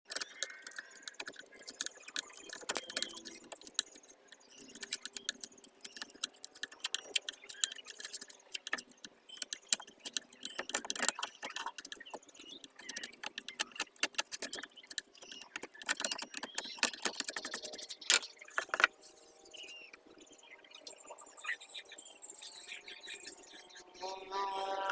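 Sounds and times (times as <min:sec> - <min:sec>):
small tools clicking and tapping wood: 0:00.1 - 0:20.1.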